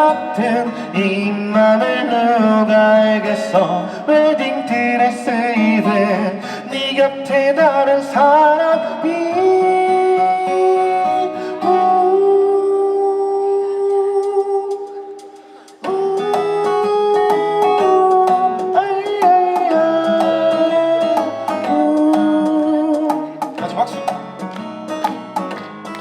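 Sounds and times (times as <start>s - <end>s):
live pop band with vocals: 0.0s - 24.4s
guitar: 0.0s - 26.0s
keyboard: 0.0s - 26.0s.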